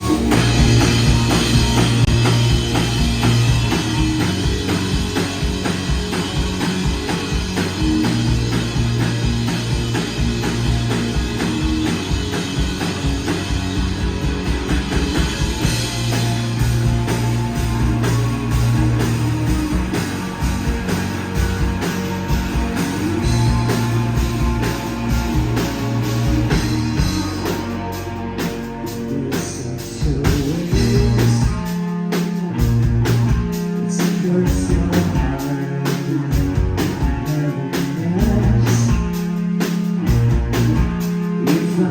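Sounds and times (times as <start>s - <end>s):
bass guitar: 0.0s - 41.9s
distorted electric guitars: 0.0s - 41.9s
hard-hit drums: 0.0s - 41.9s.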